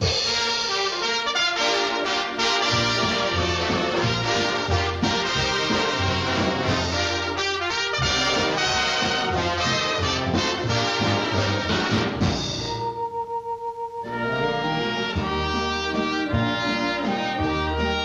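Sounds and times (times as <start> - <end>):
orchestral brass music: 0.0 - 13.3, 13.9 - 18.0.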